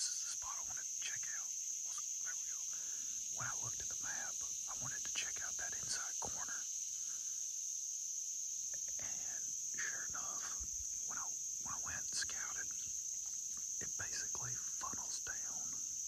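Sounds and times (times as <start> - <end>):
insects chorus shrill drone: 0.0 - 16.0.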